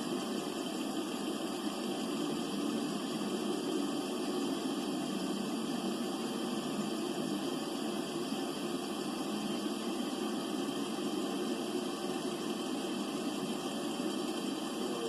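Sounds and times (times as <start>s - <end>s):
underwater hiss: 0.0s - 15.0s.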